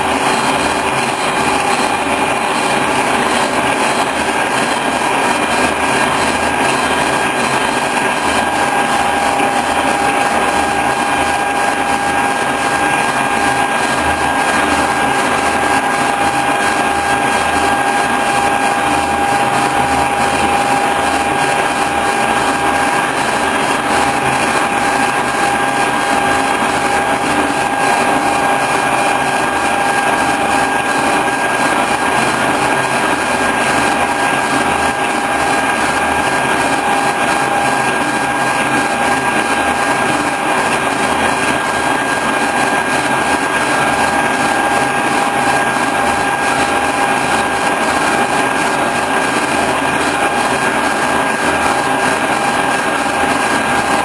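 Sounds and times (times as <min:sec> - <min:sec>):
milling machine cutting metal: 0:00.0 - 0:54.0.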